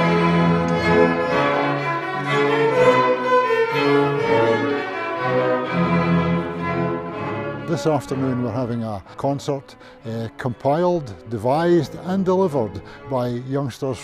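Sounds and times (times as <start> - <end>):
held cello notes: 0.0 - 14.0
violins: 0.0 - 14.0.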